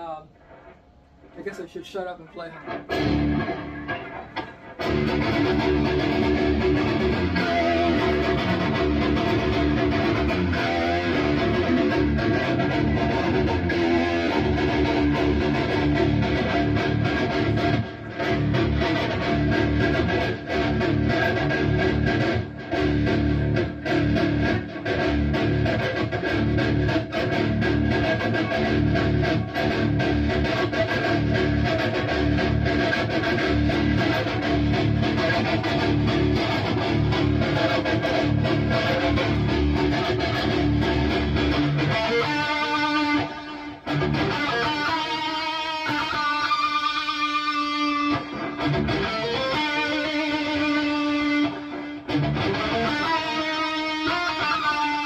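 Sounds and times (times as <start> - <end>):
distorted electric guitar: 0.0 - 1.6, 2.2 - 55.0.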